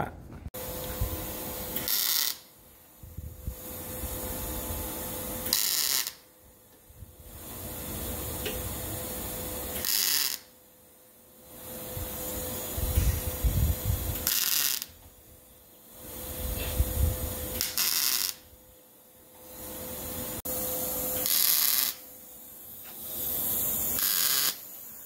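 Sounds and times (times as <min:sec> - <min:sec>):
arc welding bursts: 0:00.6 - 0:06.4, 0:07.1 - 0:10.6, 0:11.5 - 0:18.5, 0:19.4 - 0:25.0
welder hum: 0:00.6 - 0:25.0.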